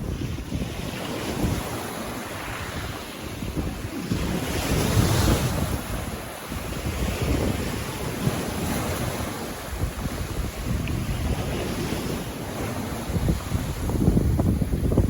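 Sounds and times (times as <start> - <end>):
ocean waves breaking: 0.0 - 15.0
wind buffeting microphone: 0.0 - 15.0.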